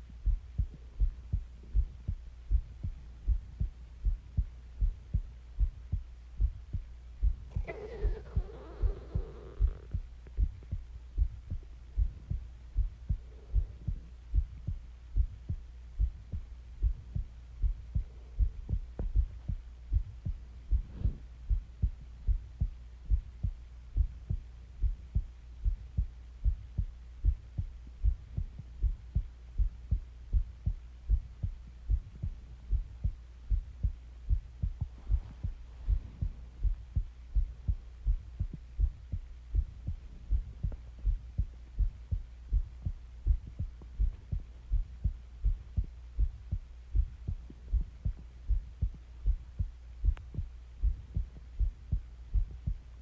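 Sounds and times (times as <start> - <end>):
heartbeat thumps: 0.0 - 53.0.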